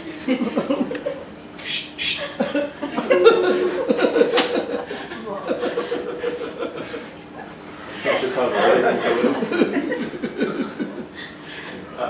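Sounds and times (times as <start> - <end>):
people speaking and chuckling: 0.0 - 12.0.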